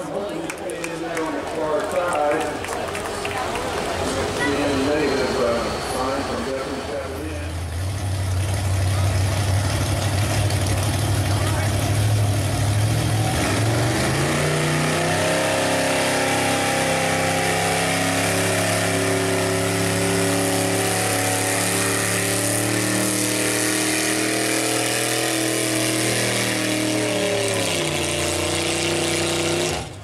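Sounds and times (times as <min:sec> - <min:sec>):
truck engine revving under load: 0:02.5 - 0:30.0.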